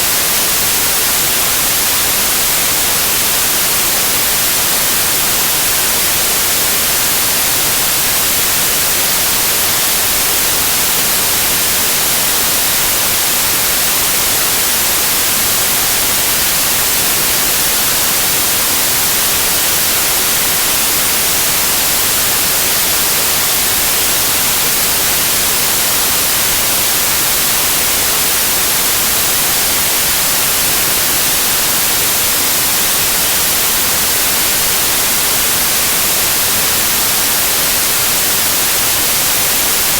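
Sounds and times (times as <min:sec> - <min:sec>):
static white noise hiss: 0:00.0 - 0:39.9.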